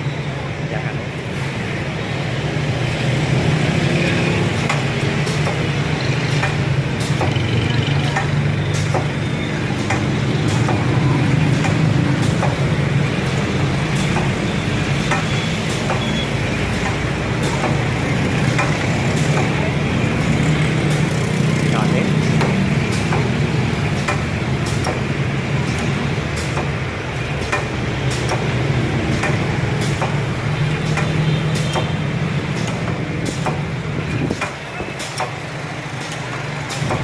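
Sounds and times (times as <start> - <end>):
sharp machine clicks: 3.6 - 37.0.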